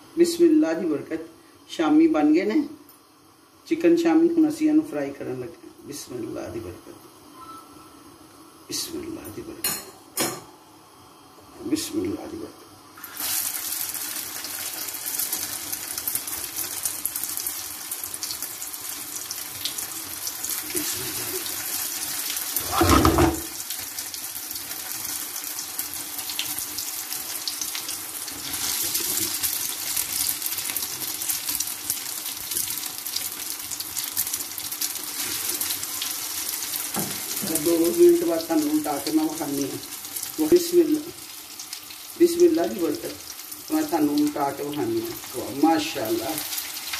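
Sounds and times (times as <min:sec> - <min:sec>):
food sizzling in oil: 0:06.4 - 0:46.9.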